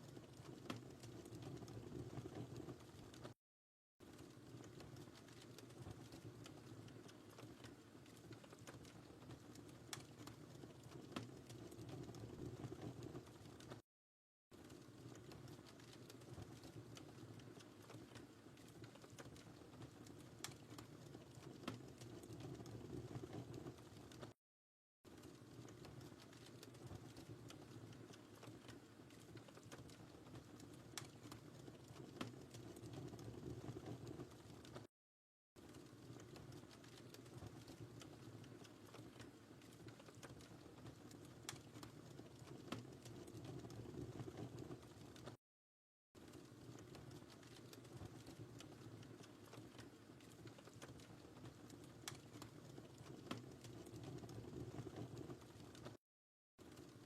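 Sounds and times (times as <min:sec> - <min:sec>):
wood fire crackling: 0:00.0 - 0:03.4, 0:04.0 - 0:13.8, 0:14.6 - 0:24.4, 0:25.1 - 0:34.9, 0:35.6 - 0:45.4, 0:46.2 - 0:56.0, 0:56.6 - 0:57.0.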